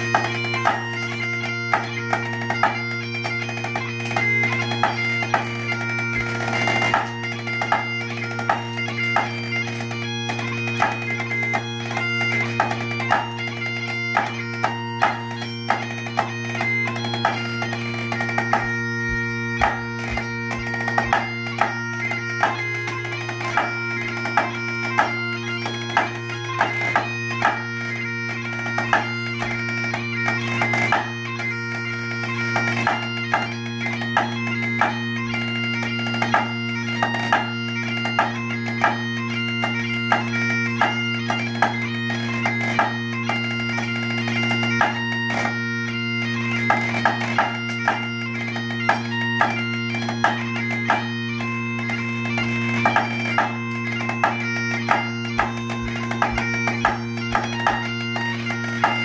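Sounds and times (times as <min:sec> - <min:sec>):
bagpipe playing a tune: 0:00.0 - 0:59.0
drumsticks striking a practice pad: 0:00.1 - 0:27.9, 0:28.5 - 0:30.0, 0:30.6 - 0:31.4, 0:32.6 - 0:35.0, 0:36.1 - 0:39.0, 0:39.6 - 0:41.8, 0:42.4 - 0:45.6, 0:46.7 - 0:51.1, 0:51.9 - 0:59.0.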